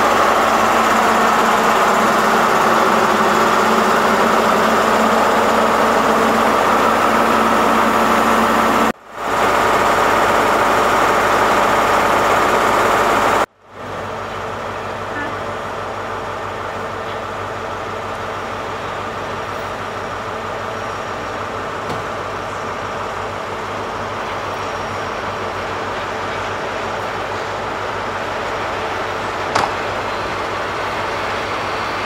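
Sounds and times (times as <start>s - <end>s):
diesel engine drone: 0.0s - 32.0s
distant approaching train rumble: 0.0s - 32.0s.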